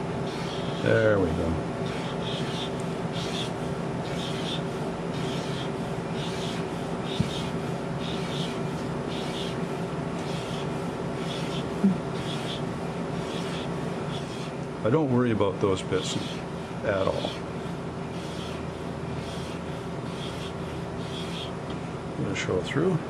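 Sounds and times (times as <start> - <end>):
steady background hum: 0.0 - 23.0
marker rasping on paper: 0.3 - 14.6, 15.9 - 21.6.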